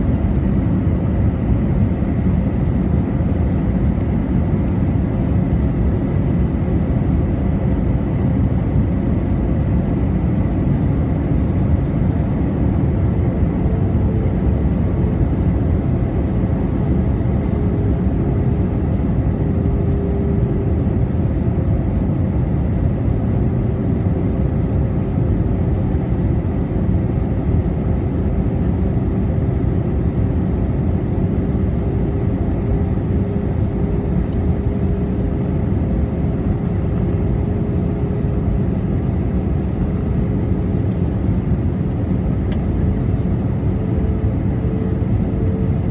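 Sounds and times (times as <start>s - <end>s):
faint droning engine tone: 0.0s - 45.9s
jet engine and airflow rush: 0.0s - 45.9s.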